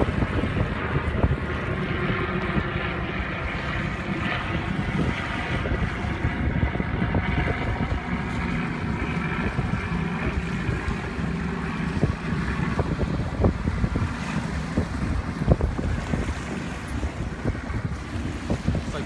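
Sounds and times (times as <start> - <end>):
motorboat engines droning: 0.0 - 19.0
wind buffeting microphone: 0.0 - 19.0.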